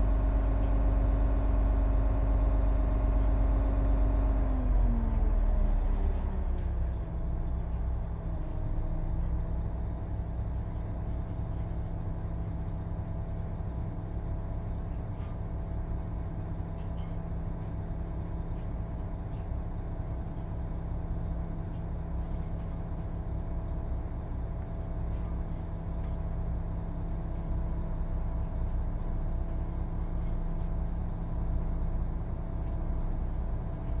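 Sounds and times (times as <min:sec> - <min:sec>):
diesel bus engine idling: 0:00.0 - 0:34.0.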